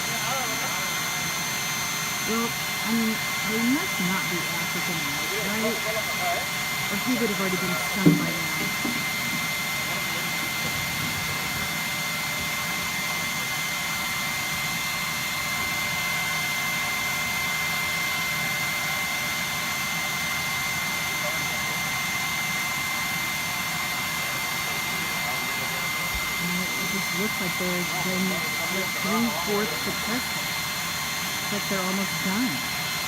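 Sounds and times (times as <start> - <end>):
vacuum motor whining: 0.0 - 33.0.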